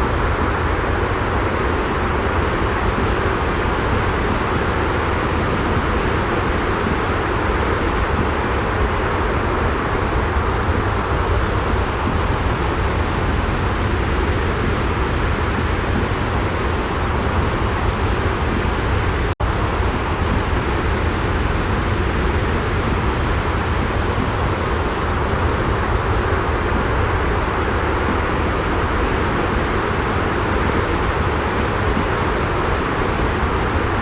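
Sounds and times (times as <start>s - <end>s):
deep white noise hiss: 0.0s - 34.0s.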